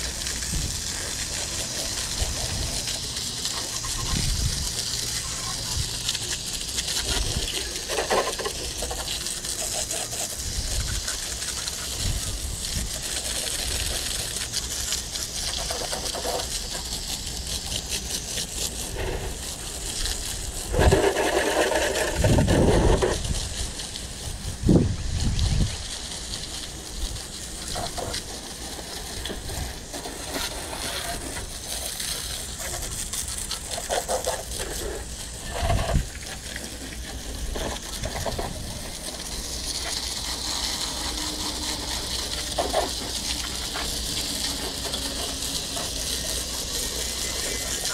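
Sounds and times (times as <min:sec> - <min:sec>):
hose spray hissing on pavement: 0:00.0 - 0:47.9.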